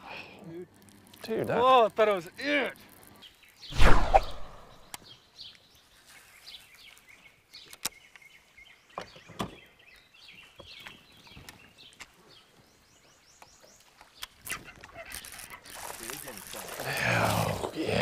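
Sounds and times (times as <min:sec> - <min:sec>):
birds singing and chirping: 0:02.3 - 0:18.0.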